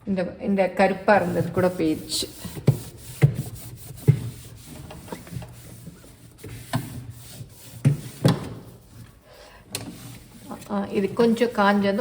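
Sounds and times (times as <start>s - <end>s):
rubbing fridge shelves: 0.8s - 12.0s.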